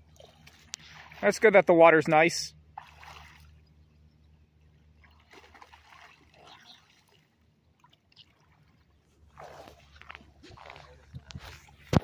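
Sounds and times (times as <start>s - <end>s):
faint water splashing: 0.0s - 12.0s.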